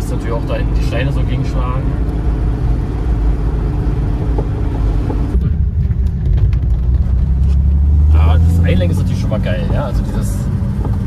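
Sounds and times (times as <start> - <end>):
car engine running: 0.0 - 11.0
road and drivetrain noise: 0.0 - 11.0.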